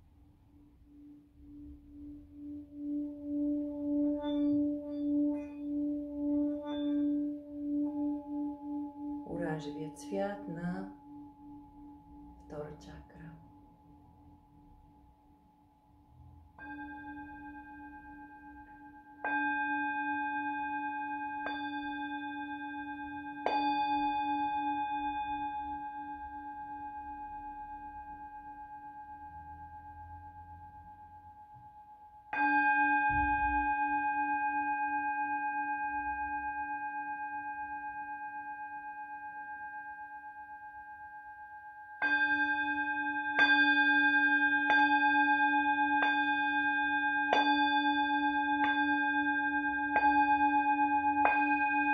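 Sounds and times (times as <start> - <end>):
singing bowl ringing: 0.9 - 51.9.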